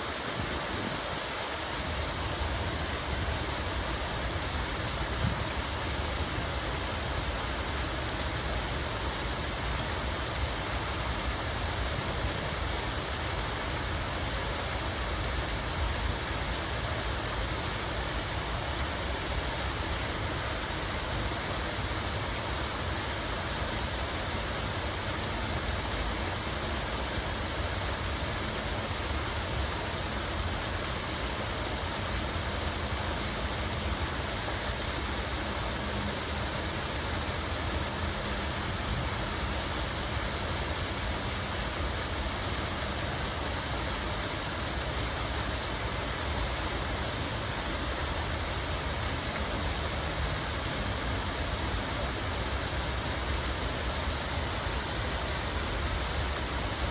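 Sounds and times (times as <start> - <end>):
water flowing: 0.0 - 56.9.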